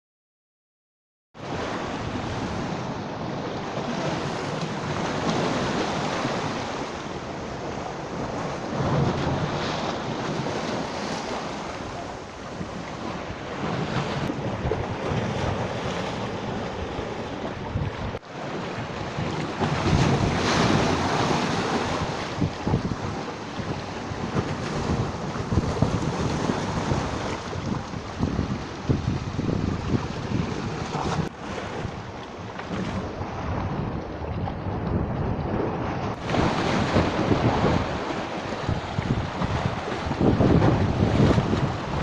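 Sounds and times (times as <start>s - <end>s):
sea surf breaking: 1.4s - 42.0s
wind buffeting microphone: 1.4s - 42.0s.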